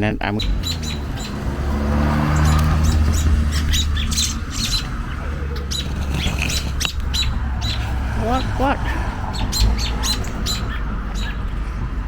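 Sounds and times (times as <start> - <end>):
birds squawking: 0.0 - 12.0
steady low rumble: 0.0 - 12.0.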